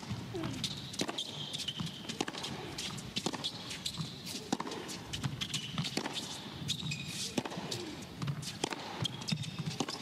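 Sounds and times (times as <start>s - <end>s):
racket striking tennis ball: 0.0s - 10.0s
shoes squeaking on court: 0.0s - 10.0s.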